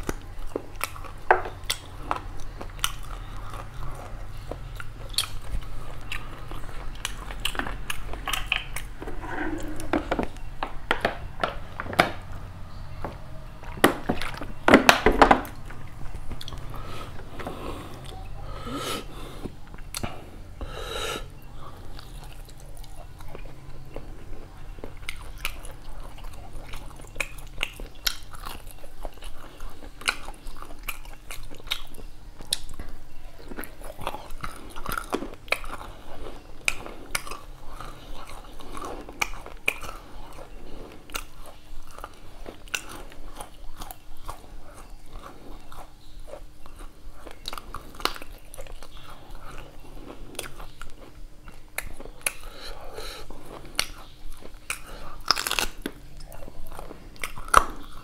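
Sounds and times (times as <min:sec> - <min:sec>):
person chewing food: 0:00.0 - 0:12.5, 0:13.1 - 0:58.0.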